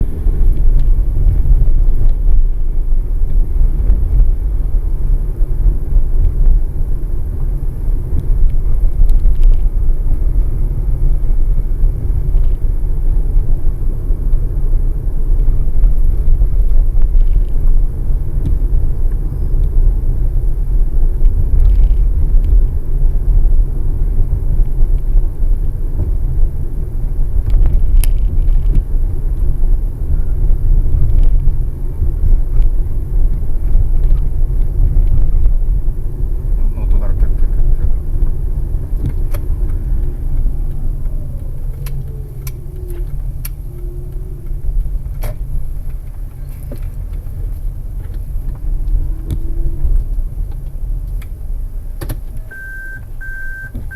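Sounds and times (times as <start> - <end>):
road and tyre rumble: 0.0 - 53.9.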